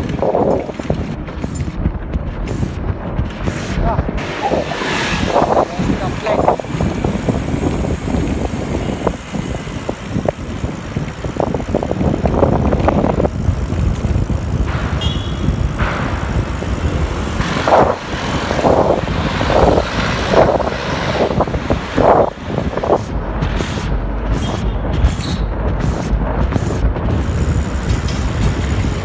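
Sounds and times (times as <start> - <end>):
road noise: 0.0 - 29.0
wind rumbling on microphone: 0.0 - 29.0.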